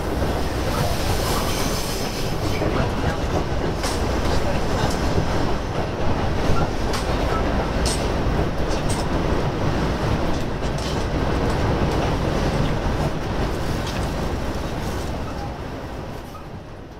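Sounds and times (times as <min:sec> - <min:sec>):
railcar wheels and engine rumble: 0:00.0 - 0:16.9
wheels clicking over rail joints: 0:00.6 - 0:15.6.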